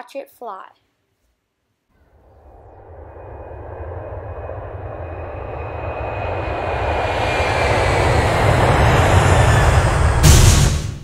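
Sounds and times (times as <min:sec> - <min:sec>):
faint high whine: 0:01.9 - 0:10.8
airplane engine drone: 0:02.0 - 0:11.0.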